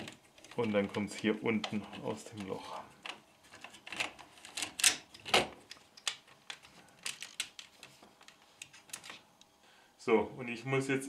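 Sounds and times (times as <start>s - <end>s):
plastic cable reel clicking and rattling: 0.0s - 9.2s.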